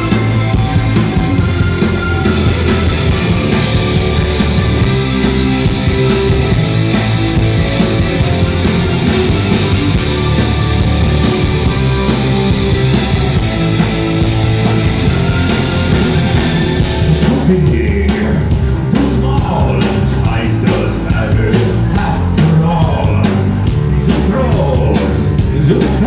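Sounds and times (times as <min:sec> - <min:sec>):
drums with steady beat: 0:00.0 - 0:26.0
electric guitars: 0:00.0 - 0:26.0.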